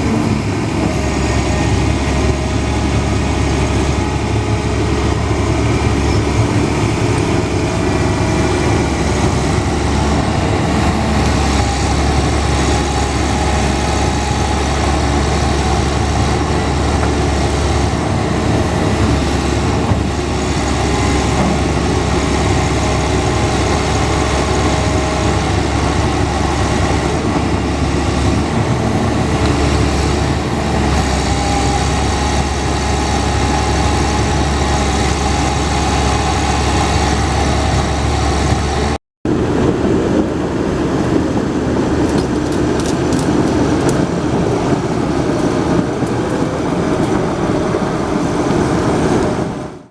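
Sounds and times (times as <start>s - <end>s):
diesel engine running: 0.0s - 39.5s, 40.2s - 49.9s.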